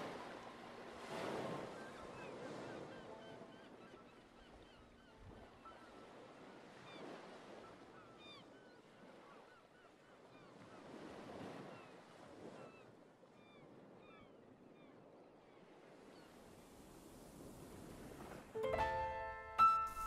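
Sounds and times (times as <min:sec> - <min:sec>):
faint sea surf: 0:00.0 - 0:20.0.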